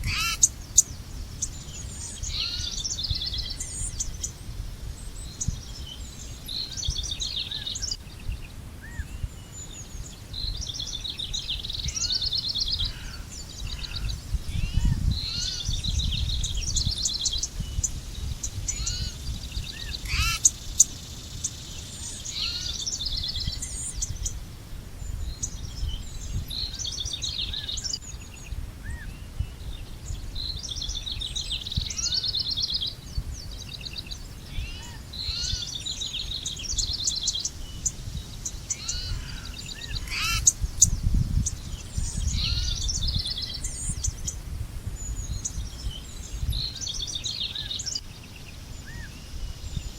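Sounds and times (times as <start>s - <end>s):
songbirds singing and chirping: 0.0s - 49.9s.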